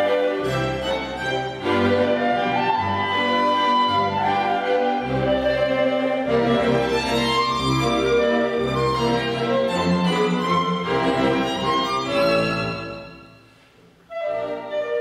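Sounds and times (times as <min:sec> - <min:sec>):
clarinet and string ensemble dance: 0:00.0 - 0:15.0.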